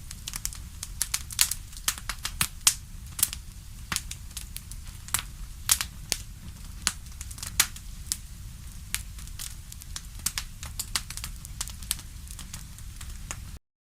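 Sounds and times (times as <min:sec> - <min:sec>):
wood fire crackling: 0:00.0 - 0:13.6.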